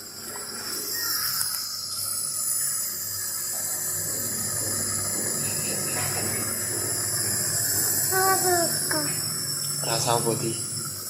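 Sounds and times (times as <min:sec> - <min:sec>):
nebulizer machine hum: 0:00.0 - 0:11.0.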